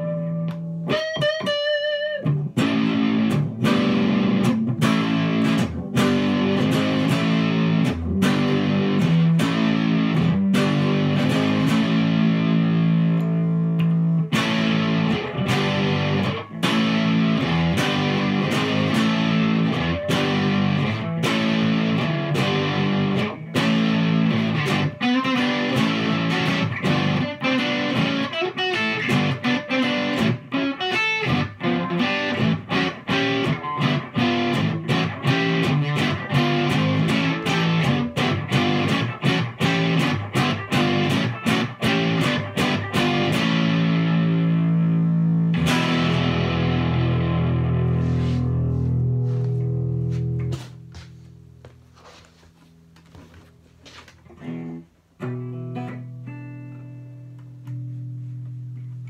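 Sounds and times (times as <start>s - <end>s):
electric guitar jam: 0.0s - 59.0s.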